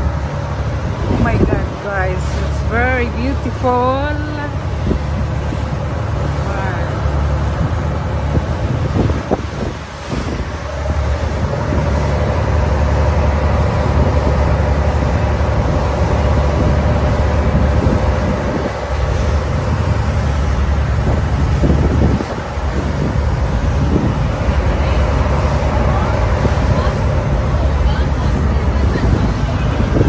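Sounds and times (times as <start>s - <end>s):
boat engine running: 0.0s - 30.0s
wind buffeting microphone: 0.0s - 30.0s.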